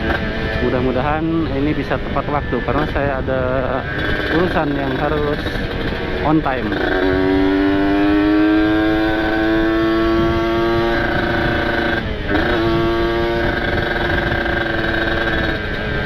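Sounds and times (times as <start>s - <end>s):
two-stroke motorcycle engine revving: 0.0s - 16.0s
wind and road rumble: 0.0s - 16.0s.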